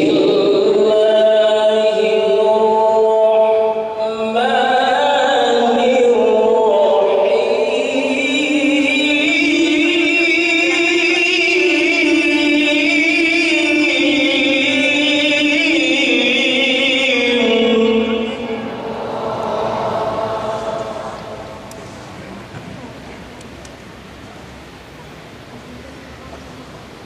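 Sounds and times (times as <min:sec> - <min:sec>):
man reciting melodically: 0:00.0 - 0:21.7.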